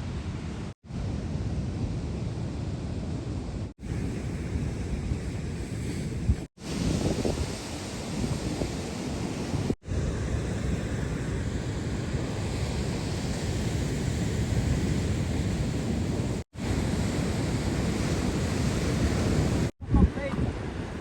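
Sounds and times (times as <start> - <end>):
ocean surf washing: 0.0 - 21.0
wind buffeting microphone: 3.5 - 21.0.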